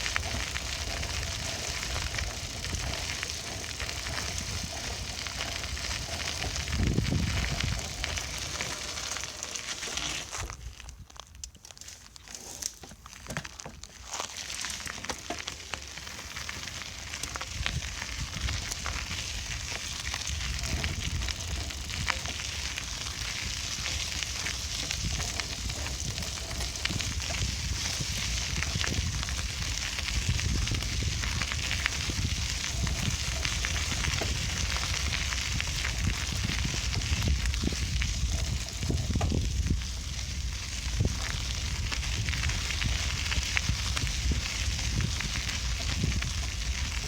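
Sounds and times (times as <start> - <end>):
wind rumble on microphone: 0.0 - 9.4, 16.0 - 47.0
bicycle tyre and drivetrain crackle: 0.0 - 47.0.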